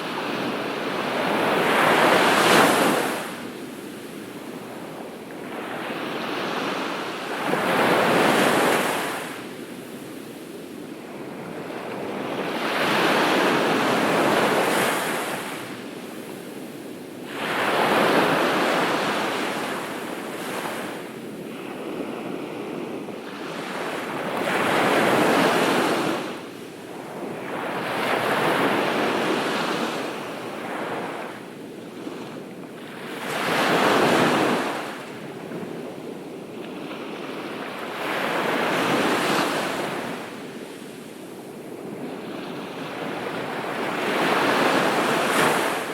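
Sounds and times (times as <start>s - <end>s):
waves breaking on beach: 0.0s - 10.4s, 11.0s - 45.9s.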